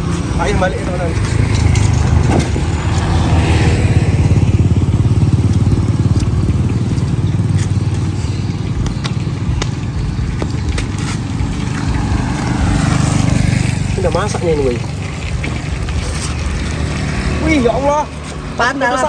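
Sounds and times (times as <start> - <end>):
motorcycle passing: 0.0 - 19.0
vehicle passing: 0.0 - 19.0.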